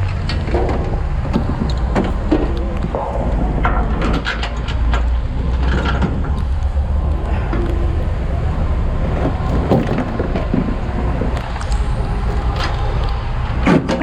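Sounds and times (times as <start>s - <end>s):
sharp clicks and knocks: 0.0s - 14.0s
truck engine rumbling: 0.0s - 14.0s.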